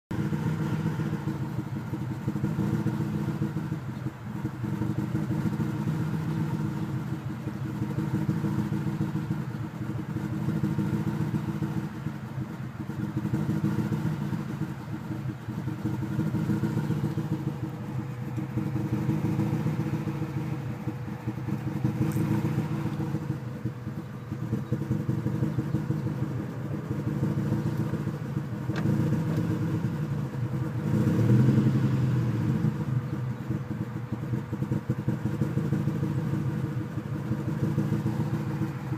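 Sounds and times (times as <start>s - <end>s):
car engine idling roughly: 0.1s - 38.9s.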